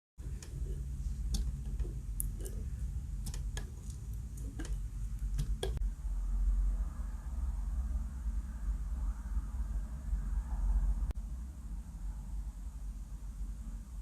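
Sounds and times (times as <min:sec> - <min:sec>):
low steady hum: 0:00.2 - 0:14.0.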